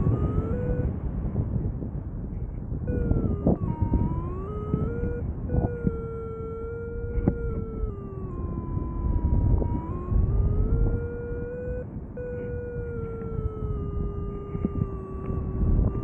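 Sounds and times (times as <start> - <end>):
electronic tone sliding in pitch: 0.0 - 0.9, 2.9 - 16.0
wind on microphone: 0.0 - 16.0.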